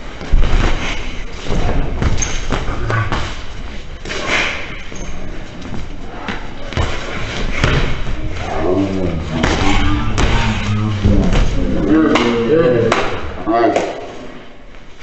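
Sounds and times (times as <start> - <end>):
noisy hall: 0.0 - 15.0.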